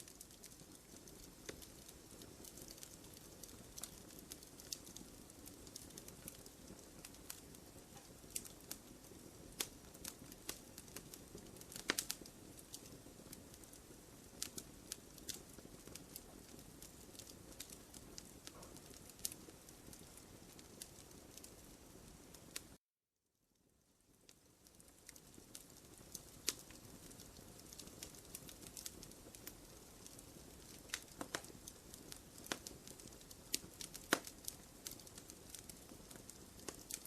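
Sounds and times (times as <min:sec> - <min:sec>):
wood fire crackling: 0:00.0 - 0:22.8, 0:23.6 - 0:37.0.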